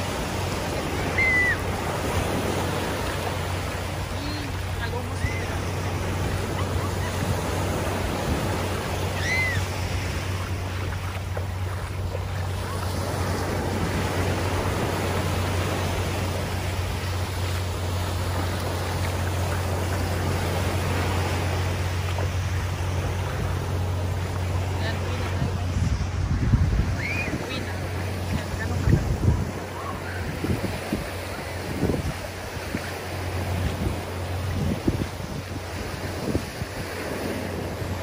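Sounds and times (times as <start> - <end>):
small surf washing up a beach: 0.0 - 38.0.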